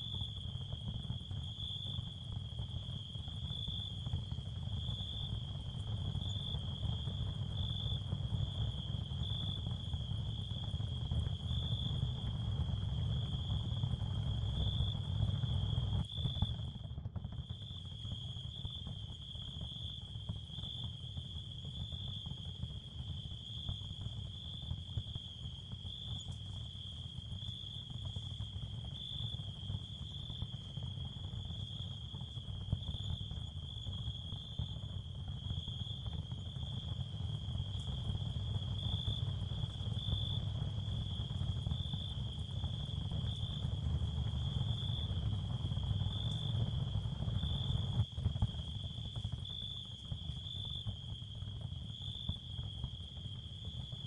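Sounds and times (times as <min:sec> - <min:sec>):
constant low rumble: 0:00.0 - 0:54.0.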